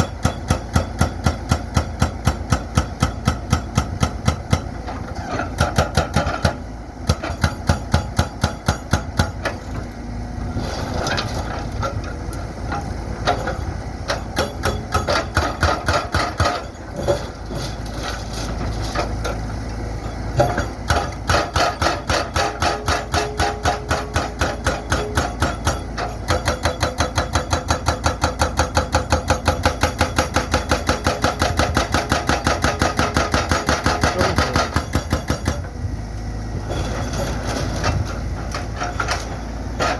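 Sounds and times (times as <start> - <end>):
hydraulic breaker hammering concrete: 0.0 - 9.8, 11.0 - 19.4, 20.3 - 35.9, 36.7 - 39.9
diesel engine running: 0.0 - 39.9.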